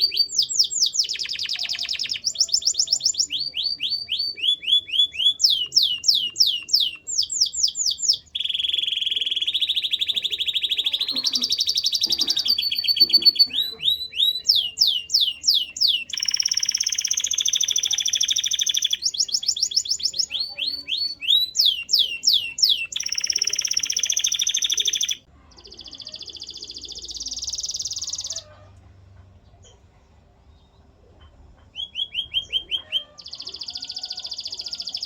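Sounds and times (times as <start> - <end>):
canary singing: 0.0 - 28.7, 31.6 - 35.0.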